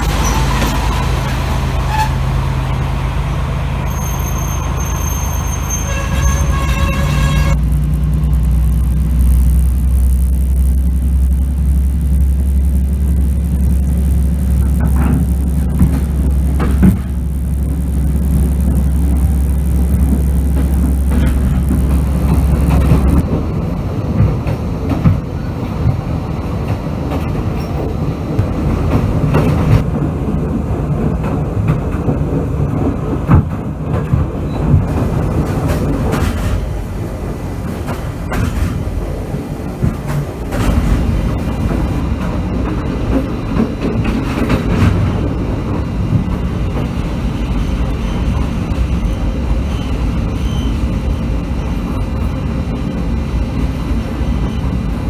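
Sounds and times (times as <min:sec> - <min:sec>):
train coaches rumbling: 0:00.0 - 0:55.0.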